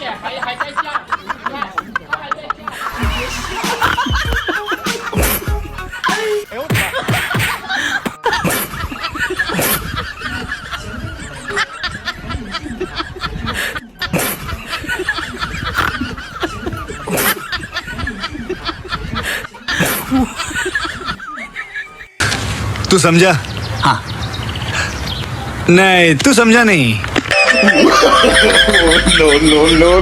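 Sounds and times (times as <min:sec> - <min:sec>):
people laughing and snickering: 0:00.0 - 0:22.2, 0:27.2 - 0:30.0.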